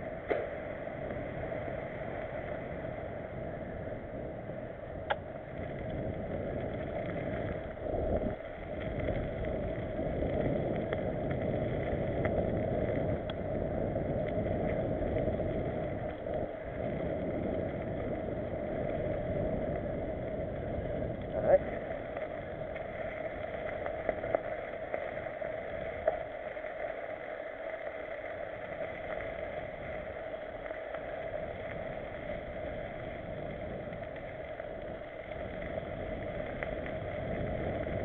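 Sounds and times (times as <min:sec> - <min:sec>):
bike rattling: 0:00.0 - 0:38.0
wind noise: 0:00.0 - 0:38.0.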